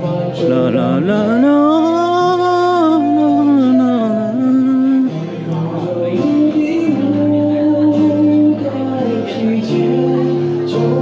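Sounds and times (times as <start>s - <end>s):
plucked guitar: 0.0s - 11.0s
person singing sliding notes: 0.4s - 11.0s.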